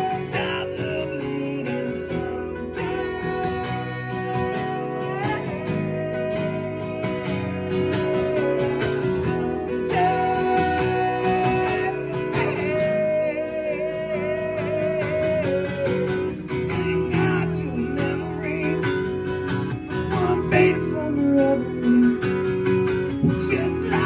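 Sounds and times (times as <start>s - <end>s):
man singing long notes: 0.0s - 19.3s, 20.0s - 22.4s, 23.2s - 24.0s
strummed acoustic guitars: 0.0s - 24.0s.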